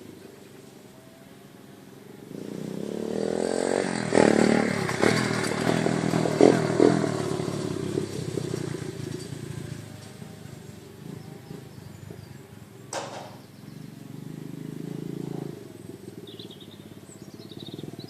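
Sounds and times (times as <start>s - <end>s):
dirt bike engine revving: 2.2s - 18.0s.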